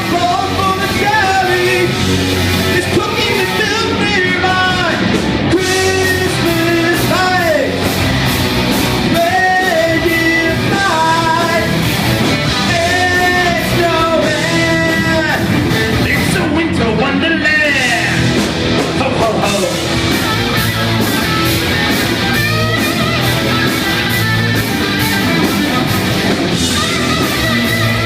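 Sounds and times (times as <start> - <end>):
bending lead guitar notes: 0.0 - 28.0
heavy rock band playing: 0.0 - 28.0.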